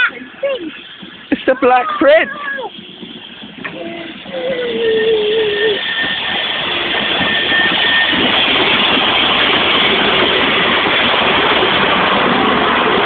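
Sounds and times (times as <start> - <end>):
steam locomotive rolling past: 0.0 - 13.0.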